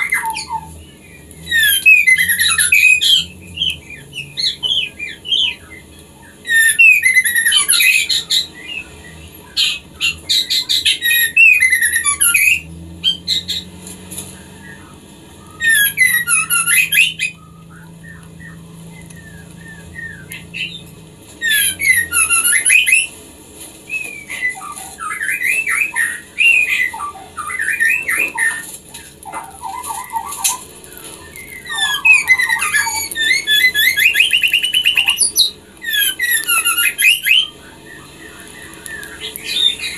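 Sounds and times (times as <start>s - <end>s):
bird whistling and chattering: 0.0s - 23.2s, 23.9s - 39.9s.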